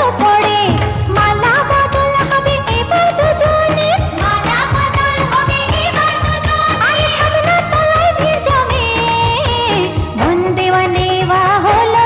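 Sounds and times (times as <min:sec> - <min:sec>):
indian pop song: 0:00.0 - 0:12.0.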